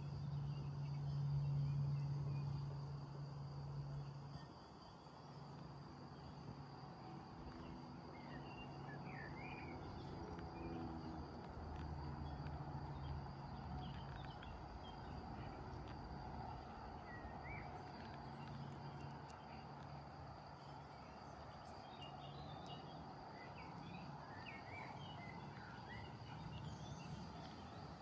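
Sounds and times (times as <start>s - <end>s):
insects trilling: 0.1s - 28.0s.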